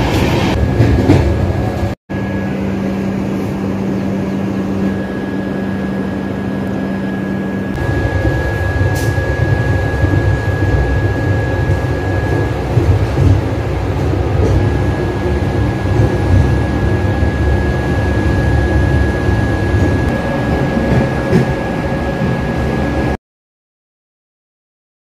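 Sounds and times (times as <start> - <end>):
train coach rumbling on track: 0.0 - 23.2.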